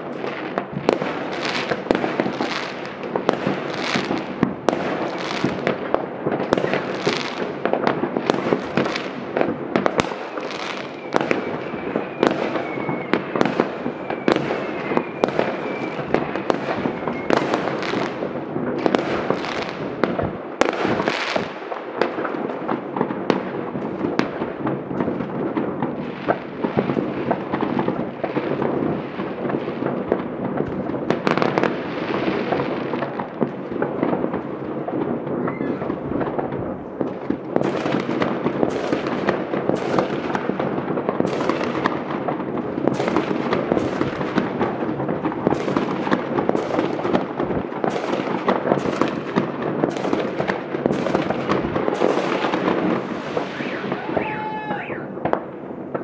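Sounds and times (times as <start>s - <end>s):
fireworks bangs and crackle: 0.0s - 56.0s
sharp firework cracks: 0.0s - 56.0s.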